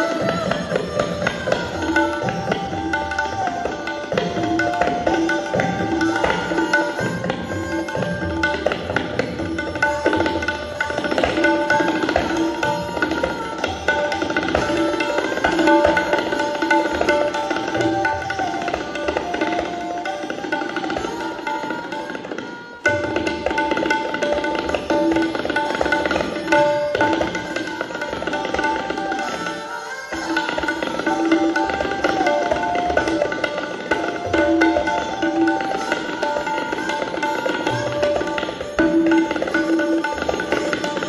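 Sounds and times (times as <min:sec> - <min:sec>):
sarangi bowing melody: 0:00.0 - 0:41.0
tabla strokes: 0:00.0 - 0:41.0.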